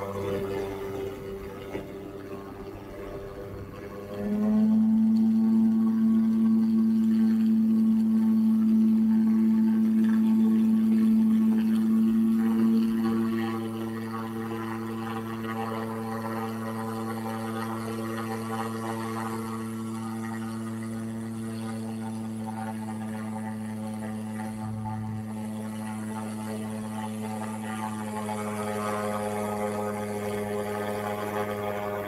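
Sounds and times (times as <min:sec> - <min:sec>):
low-pitched hum: 0:00.0 - 0:32.0.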